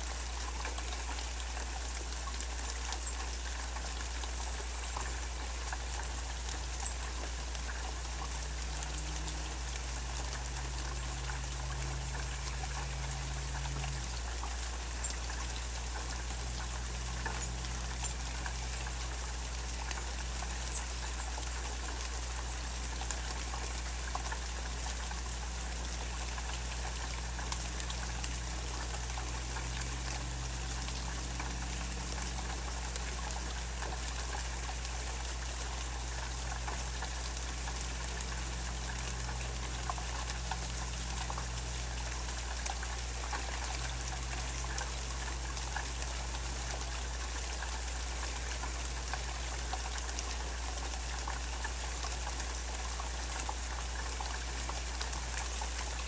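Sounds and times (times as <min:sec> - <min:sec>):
drips: 0:00.0 - 0:56.0
steady rain: 0:00.0 - 0:56.0
low steady hum: 0:04.2 - 0:53.1.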